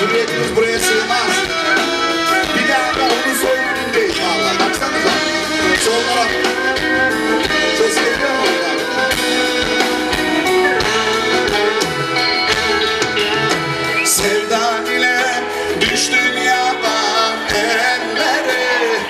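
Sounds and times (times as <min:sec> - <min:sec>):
drums keeping a steady beat: 0:00.0 - 0:19.0
keyboards: 0:00.0 - 0:19.0
live band music: 0:00.0 - 0:19.0.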